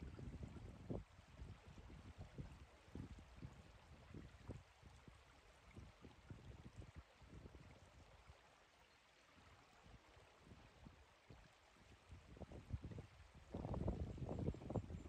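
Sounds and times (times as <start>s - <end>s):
river flowing: 1.0s - 15.0s.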